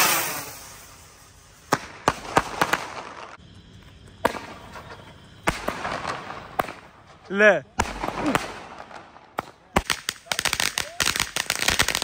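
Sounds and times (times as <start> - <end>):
firework cracks and pops: 0.0 - 12.0
firework rushing hiss: 0.0 - 12.0.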